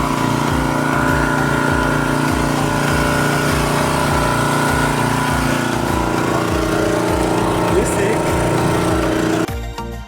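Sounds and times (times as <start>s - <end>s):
pressure washer running: 0.0s - 9.5s.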